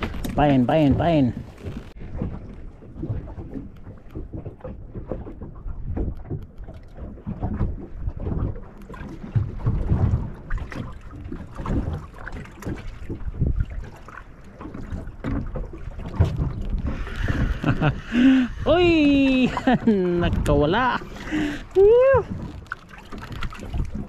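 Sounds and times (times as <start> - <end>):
wind buffeting microphone: 0.0 - 14.0, 14.6 - 24.0
water slapping boat hull: 0.0 - 24.0.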